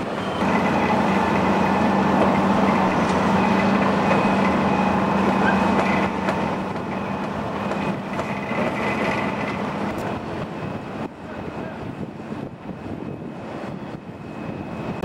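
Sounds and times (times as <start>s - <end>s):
piling rig drilling: 0.0s - 15.0s.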